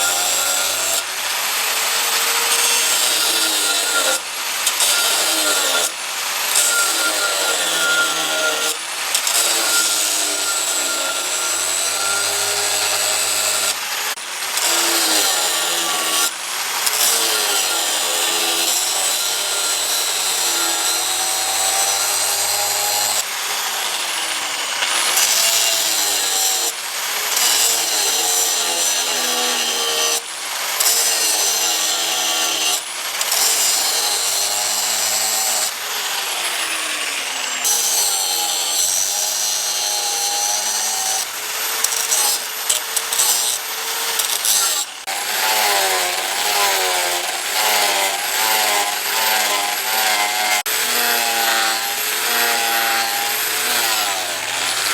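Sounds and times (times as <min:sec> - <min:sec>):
power grinder grinding steel: 0:00.0 - 0:54.9.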